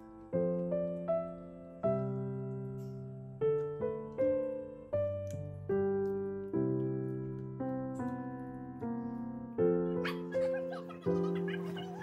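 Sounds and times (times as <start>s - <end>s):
slow solo piano piece: 0.0s - 12.0s.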